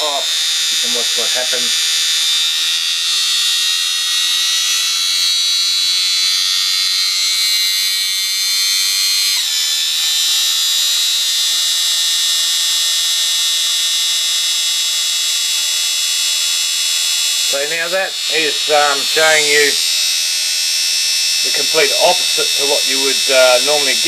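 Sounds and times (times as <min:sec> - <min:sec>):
electric motor high-pitched whine: 0:00.0 - 0:24.0.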